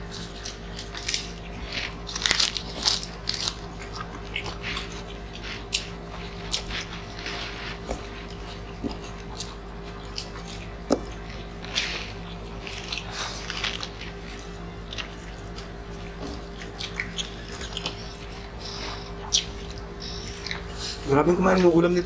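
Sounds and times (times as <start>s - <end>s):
chewing: 0.0s - 21.7s
food crunching: 0.0s - 22.0s.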